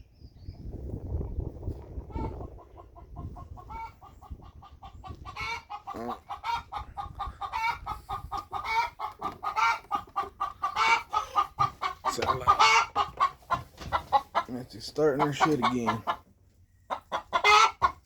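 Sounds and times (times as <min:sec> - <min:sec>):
hen cackling: 0:02.1 - 0:16.2, 0:16.9 - 0:18.0.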